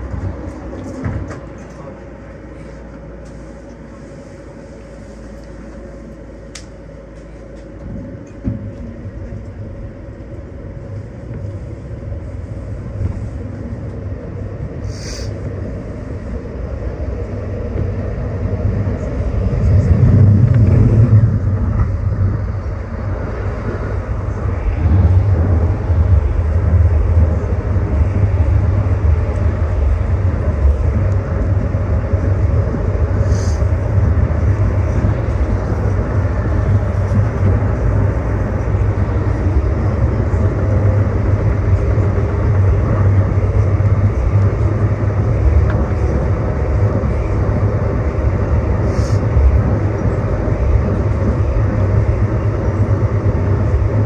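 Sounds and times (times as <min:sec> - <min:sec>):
train car hum: 0:00.0 - 0:54.0
wheels rumbling on track: 0:00.0 - 0:54.0.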